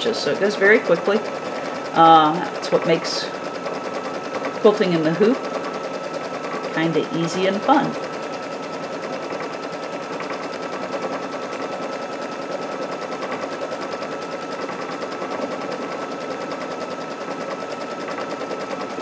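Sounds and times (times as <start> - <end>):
embroidery machine needle clatter: 0.0 - 19.0.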